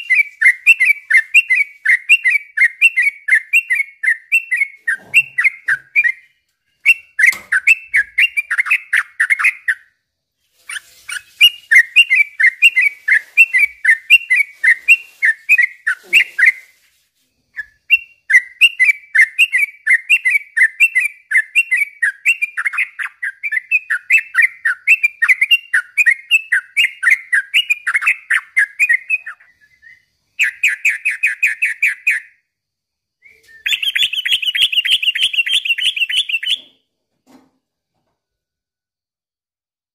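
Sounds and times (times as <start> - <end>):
buzzy bird trill: 0.0 - 9.9, 10.6 - 16.9, 17.6 - 32.4, 33.3 - 36.8.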